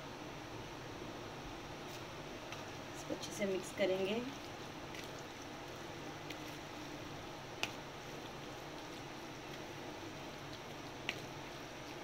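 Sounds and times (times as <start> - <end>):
spoon stirring wet batter: 1.8 - 12.0.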